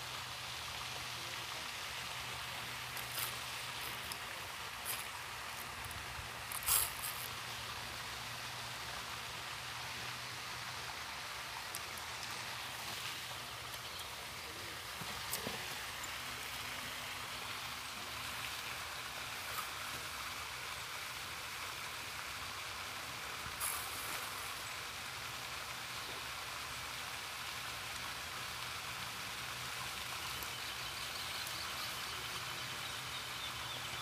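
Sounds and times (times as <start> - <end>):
soft even hiss: 0.0 - 34.0.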